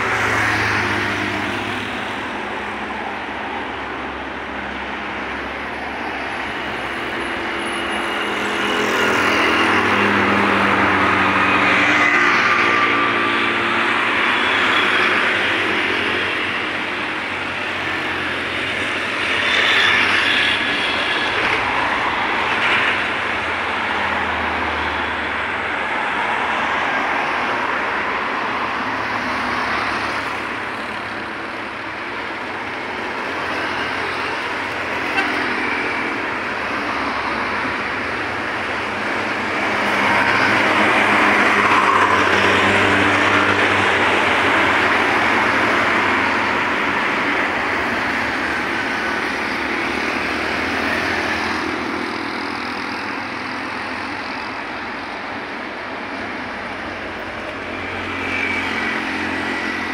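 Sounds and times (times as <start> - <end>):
motorcycles and cars passing: 6.5 - 59.9.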